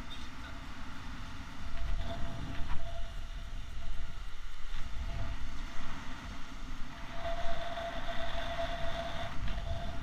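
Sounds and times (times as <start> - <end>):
wind buffeting microphone: 0.5 - 10.0.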